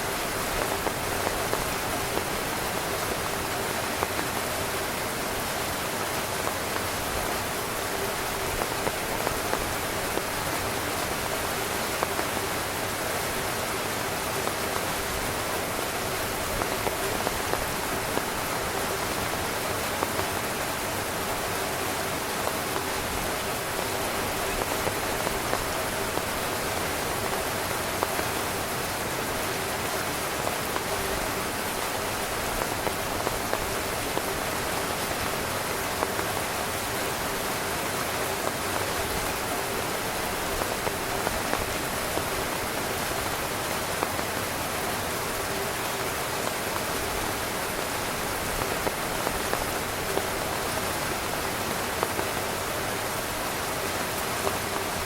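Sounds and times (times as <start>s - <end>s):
heavy rain on tent fabric: 0.0s - 55.0s.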